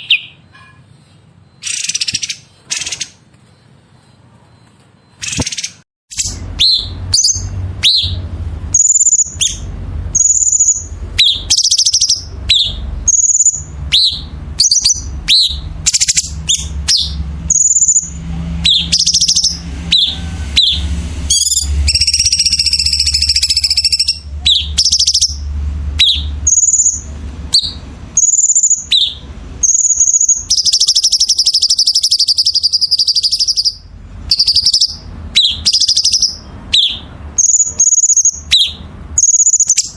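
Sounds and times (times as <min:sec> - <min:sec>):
buzzy bird trills: 0:00.0 - 0:39.9
songbird singing: 0:00.0 - 0:39.9.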